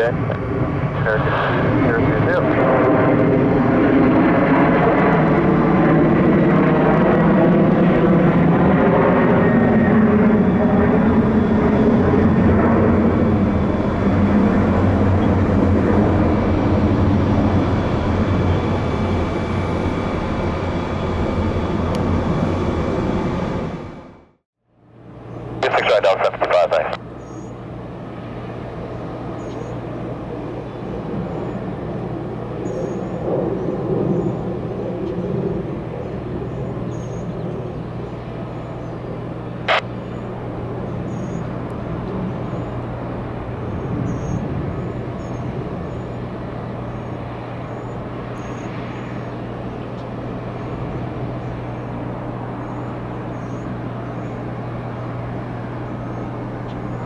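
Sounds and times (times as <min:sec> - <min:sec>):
engine rumble: 0:00.0 - 0:57.0.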